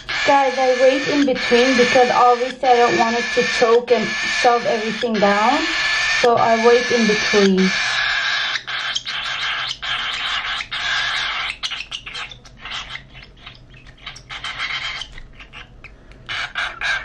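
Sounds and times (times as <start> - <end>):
bird chick begging calls: 0.0 - 17.0.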